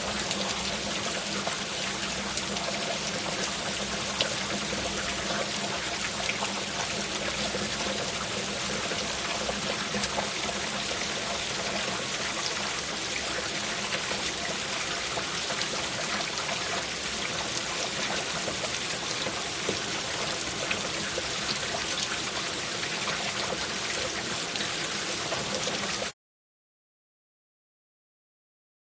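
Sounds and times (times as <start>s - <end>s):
rain falling steadily: 0.0s - 26.1s.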